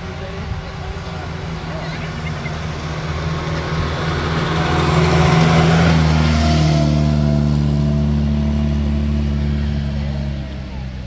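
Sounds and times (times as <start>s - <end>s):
car engine pulling uphill: 0.0s - 11.0s.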